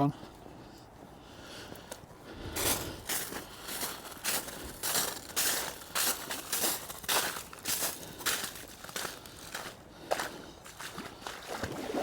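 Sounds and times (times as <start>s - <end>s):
footsteps crunching on frozen mud: 0.1s - 12.0s.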